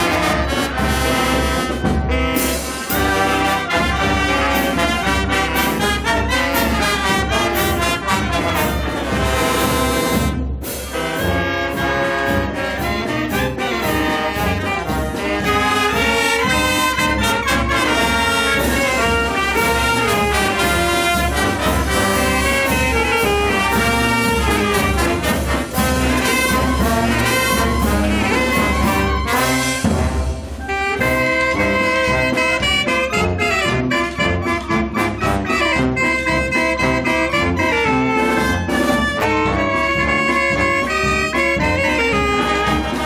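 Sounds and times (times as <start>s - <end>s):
brass band playing: 0.0s - 43.0s.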